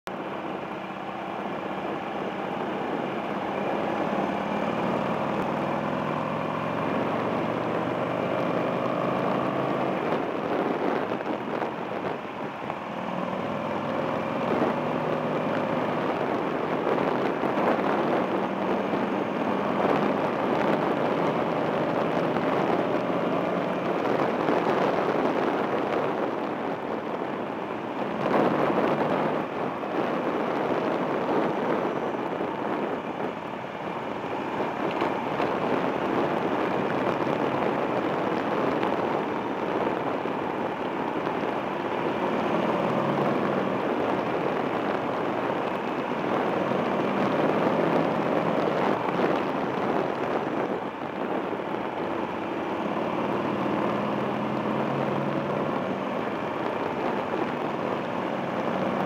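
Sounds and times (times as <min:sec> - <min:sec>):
road noise: 0:00.0 - 0:59.0
motorcycle engine accelerating: 0:00.1 - 0:59.0
wind noise: 0:00.1 - 0:59.0.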